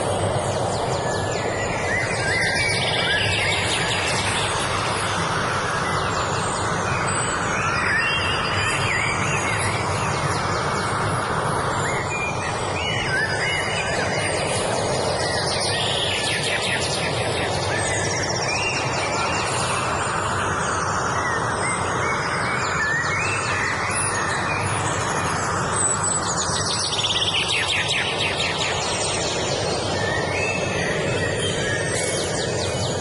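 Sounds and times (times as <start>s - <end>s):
songbirds singing: 0.0s - 33.0s
steady rushing noise: 0.0s - 33.0s.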